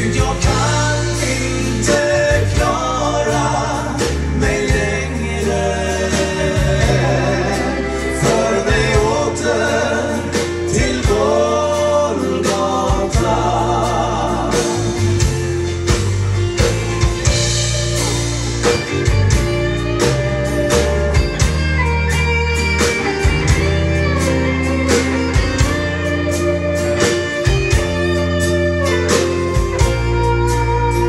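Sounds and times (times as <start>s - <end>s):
gospel band instrumental: 0.0s - 31.0s
lead guitar: 0.0s - 31.0s.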